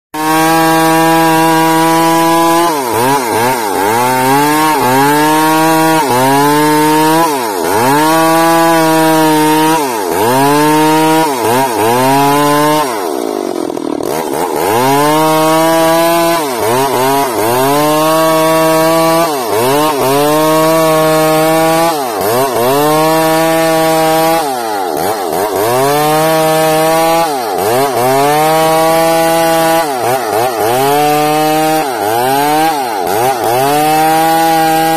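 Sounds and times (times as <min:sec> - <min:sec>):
chainsaw cutting wood: 0:00.2 - 0:34.9.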